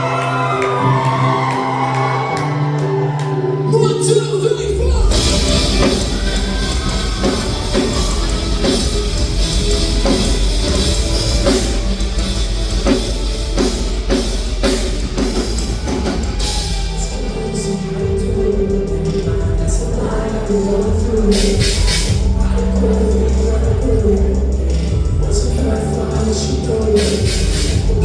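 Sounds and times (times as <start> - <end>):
distorted electric guitars: 4.8 - 28.0
drum kit with cymbals: 5.0 - 28.0.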